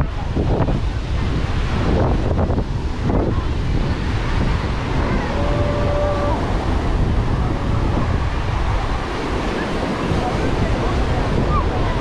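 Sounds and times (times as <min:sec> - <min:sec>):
surf breaking on shore: 0:00.0 - 0:12.0
wind buffeting microphone: 0:00.0 - 0:12.0.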